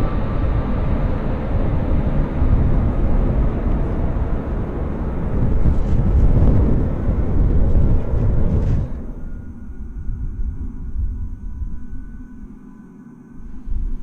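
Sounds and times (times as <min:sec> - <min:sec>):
jet aircraft flying low: 0:00.0 - 0:14.0.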